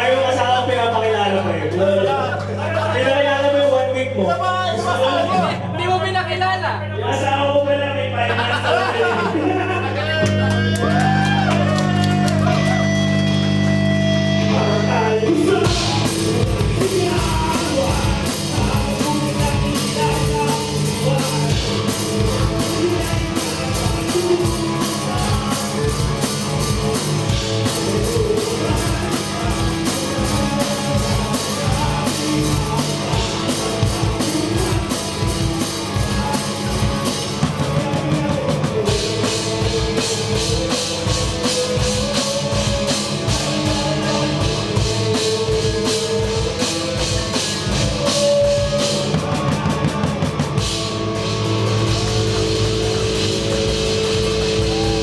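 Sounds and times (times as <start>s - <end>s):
person singing: 9.8s - 55.0s
live rock band playing: 10.2s - 55.0s
drum kit beat: 10.3s - 55.0s.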